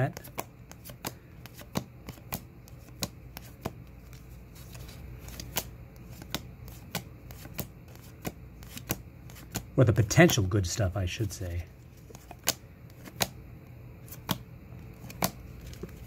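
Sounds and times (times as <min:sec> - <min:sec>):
cards being flipped by hand: 0:00.1 - 0:10.5, 0:11.8 - 0:13.4, 0:14.0 - 0:16.0.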